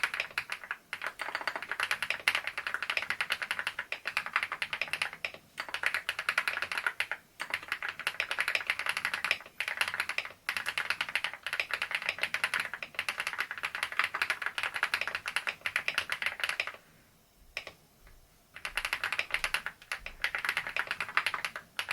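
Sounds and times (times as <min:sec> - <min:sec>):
typing on mechanical keyboard: 0:00.0 - 0:16.8, 0:18.6 - 0:21.9.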